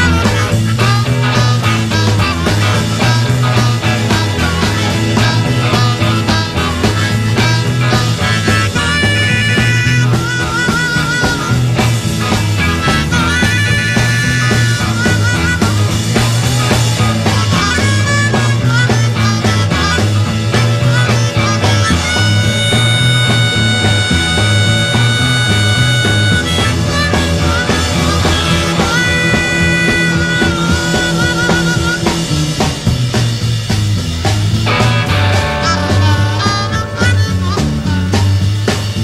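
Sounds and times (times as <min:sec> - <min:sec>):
drums and bass groove: 0:00.0 - 0:39.0
harmonica playing: 0:00.0 - 0:39.0.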